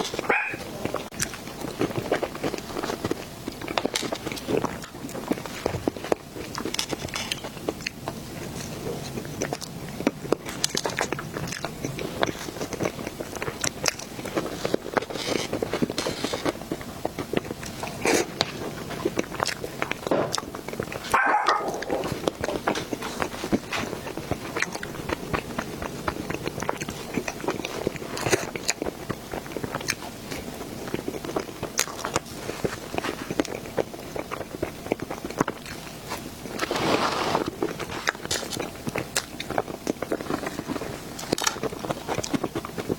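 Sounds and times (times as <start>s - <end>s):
chewing with wet mouth clicks: 0.0s - 36.7s, 37.4s - 42.9s.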